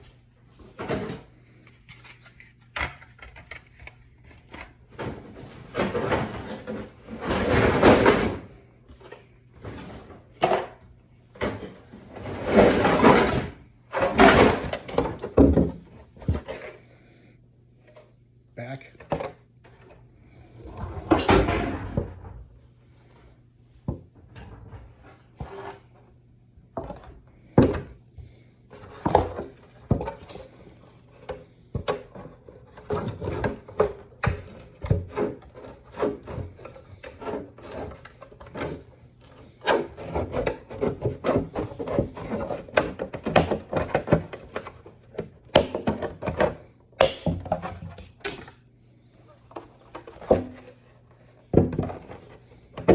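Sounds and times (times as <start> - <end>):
scraping and rubbing plastic: 0.6 - 18.2, 24.0 - 26.2, 26.8 - 52.9.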